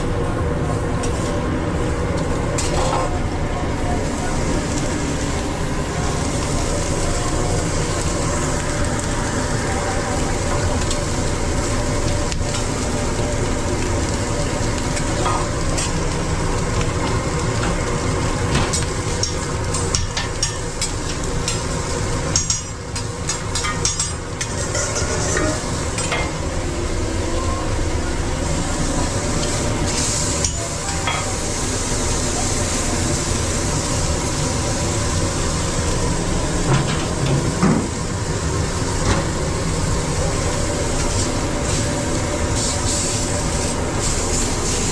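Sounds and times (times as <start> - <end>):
food sizzling on a griddle: 0.0 - 44.9
steady hum: 0.0 - 44.9.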